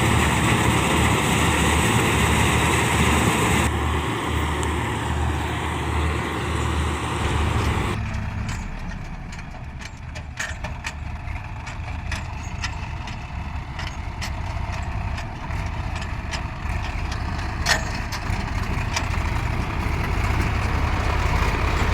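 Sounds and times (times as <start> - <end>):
combine harvester engine running: 0.0 - 21.9.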